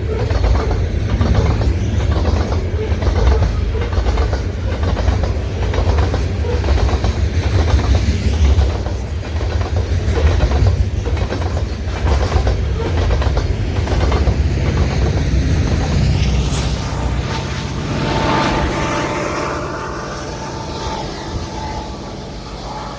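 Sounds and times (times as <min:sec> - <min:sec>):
train low rumble: 0:00.0 - 0:22.9
wheels clacking over rail joints: 0:00.0 - 0:22.9.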